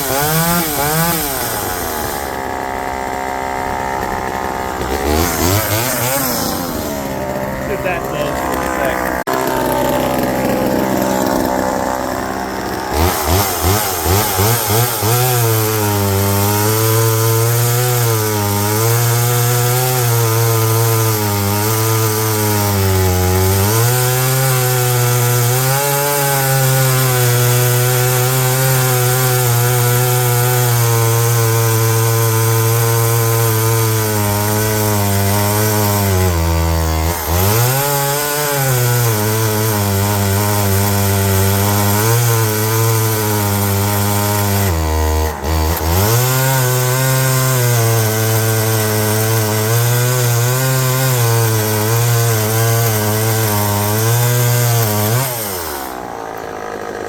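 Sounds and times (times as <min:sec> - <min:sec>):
chainsaw cutting wood: 0:00.0 - 0:57.0
chainsaw throttle blips: 0:00.0 - 0:57.0.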